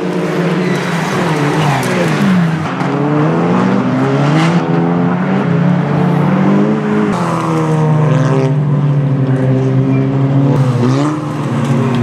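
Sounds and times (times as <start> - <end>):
racing car engine at high revs: 0.0 - 12.0.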